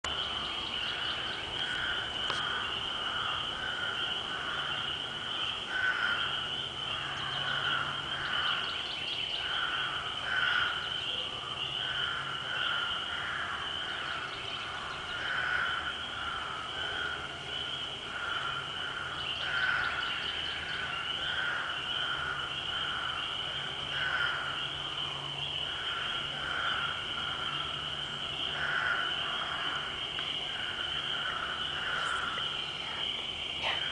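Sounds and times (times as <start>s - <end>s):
frogs calling: 0.0s - 33.9s.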